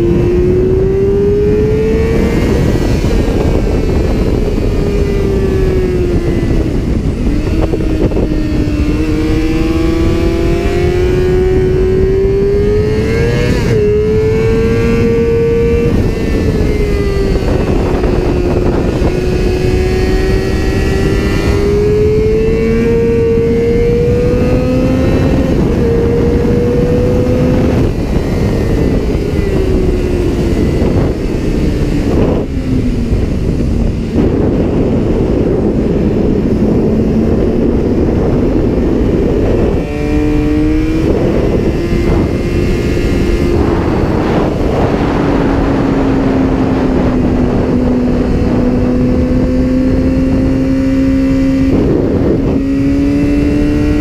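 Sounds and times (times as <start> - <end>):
motorcycle engine revving: 0.0 - 54.0
wind rushing over microphone: 0.0 - 54.0.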